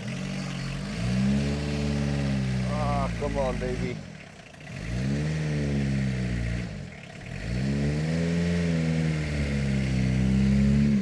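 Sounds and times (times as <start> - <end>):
car engine revving: 0.0 - 4.0, 4.6 - 11.0.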